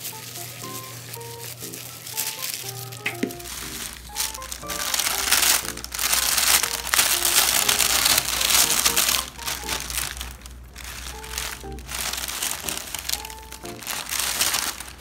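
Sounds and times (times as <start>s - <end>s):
light background music: 0.0s - 14.8s
paper and plastic crinkling: 0.0s - 15.0s.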